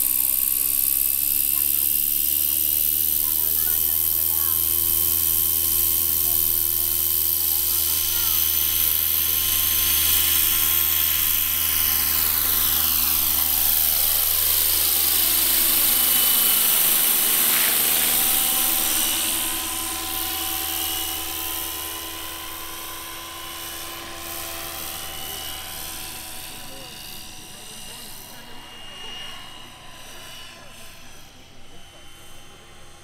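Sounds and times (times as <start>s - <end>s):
model helicopter motor and rotor whine: 0.0s - 33.0s.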